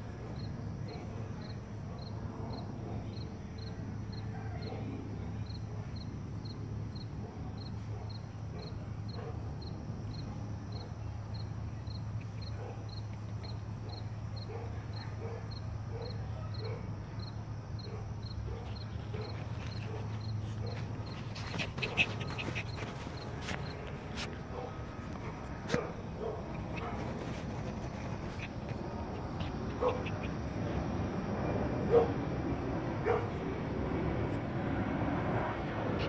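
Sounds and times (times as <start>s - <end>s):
steady low hum overhead: 0.0s - 36.0s.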